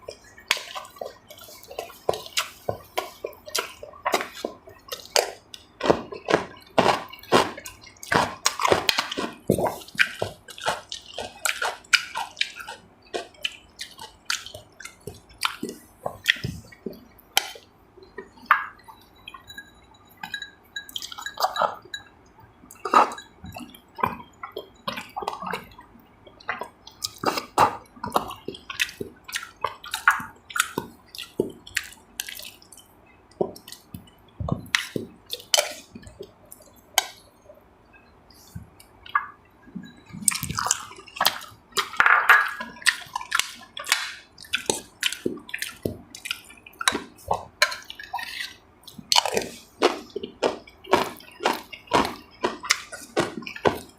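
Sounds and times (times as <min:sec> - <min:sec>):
wet chewing and slurping: 0:00.0 - 0:37.3, 0:38.3 - 0:53.9.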